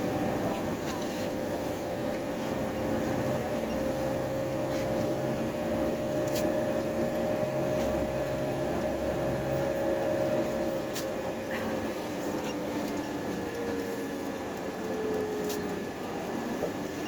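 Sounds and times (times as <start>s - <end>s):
bus engine and road rumble: 0.0s - 17.0s
constant whine: 0.0s - 17.0s.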